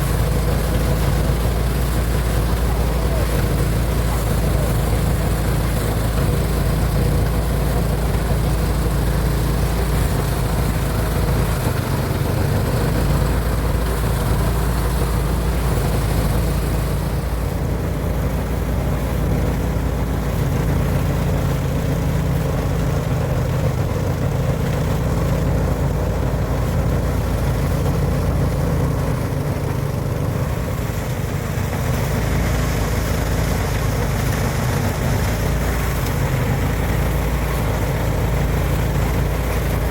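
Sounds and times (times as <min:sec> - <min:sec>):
thresher engine droning: 0:00.0 - 0:39.9.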